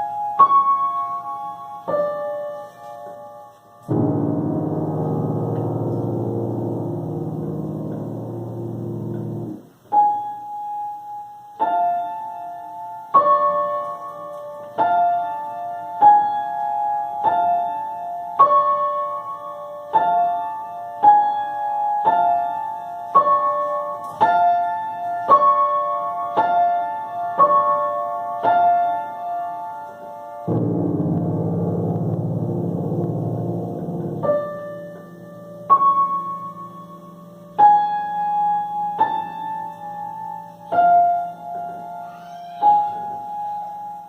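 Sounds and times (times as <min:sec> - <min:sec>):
slow high piano notes: 0:00.0 - 0:44.0.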